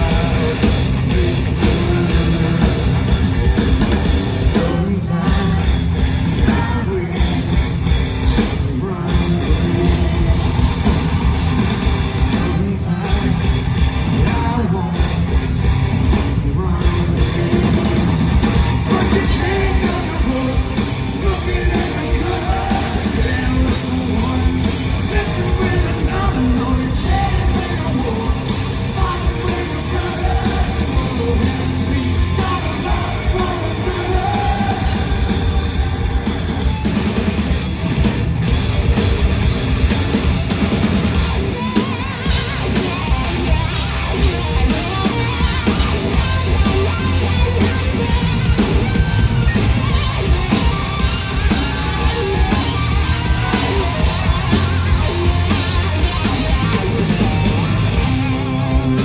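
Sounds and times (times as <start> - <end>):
distorted electric guitars: 0.0 - 59.0
drums: 0.0 - 59.0
rock vocals: 0.0 - 59.0.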